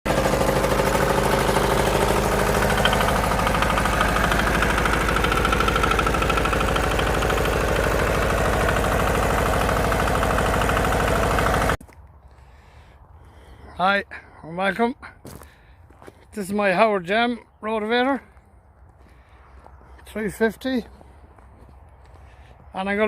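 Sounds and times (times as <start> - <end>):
diesel engine running: 0.0 - 13.8, 17.8 - 23.0.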